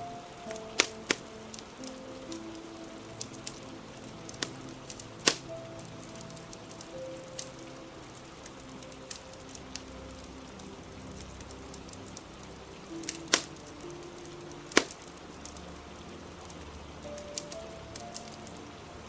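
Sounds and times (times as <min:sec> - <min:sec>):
fire crackling: 0:00.0 - 0:19.0
rain hissing: 0:00.0 - 0:19.0
soft slow music: 0:00.0 - 0:19.0.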